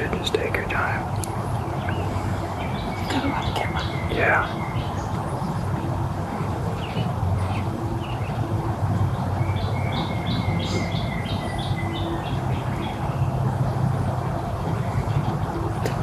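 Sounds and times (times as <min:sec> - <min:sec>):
songbird chirping song: 0:00.0 - 0:16.0
steady low rumble: 0:00.0 - 0:16.0.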